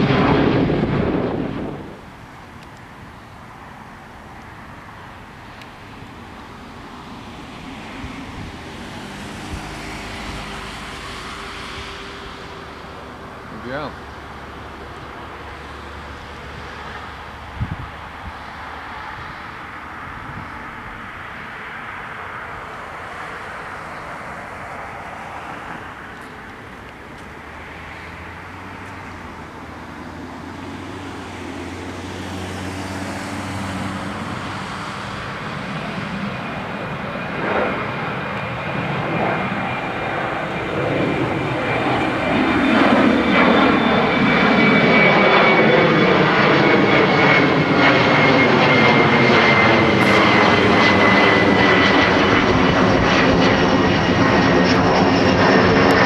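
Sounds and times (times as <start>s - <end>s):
jet engines passing overhead: 0.0s - 56.0s.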